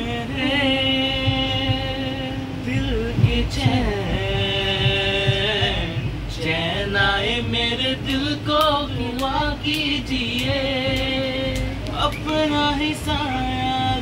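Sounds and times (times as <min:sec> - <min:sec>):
low steady rumble: 0:00.0 - 0:14.0
man singing unaccompanied: 0:00.0 - 0:14.0.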